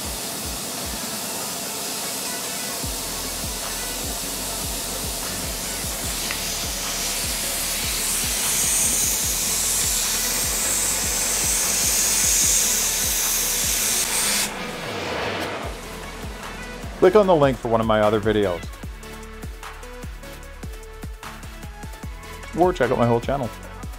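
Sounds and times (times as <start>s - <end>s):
cutting torch hissing: 0.0s - 20.4s
background music with low beat: 2.8s - 23.9s.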